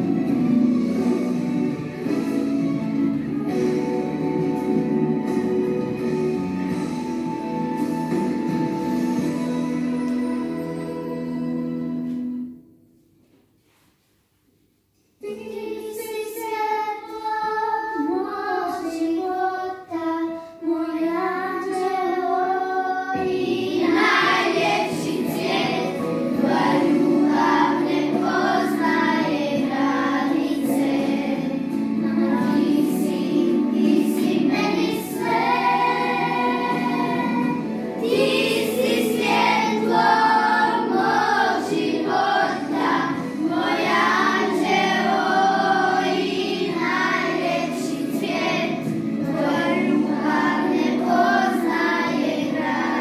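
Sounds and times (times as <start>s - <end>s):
children singing with music: 0.0s - 13.2s, 14.9s - 53.0s.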